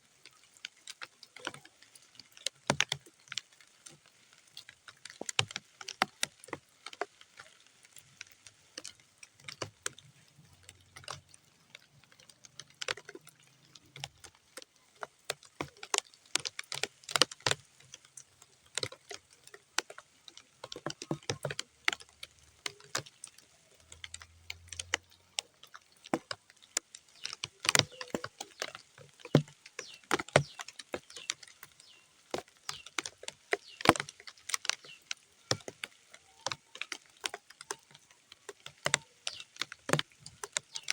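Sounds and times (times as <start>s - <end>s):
faint hiss of rain: 0.0s - 40.9s
raindrops hitting muddy ground: 0.0s - 40.9s.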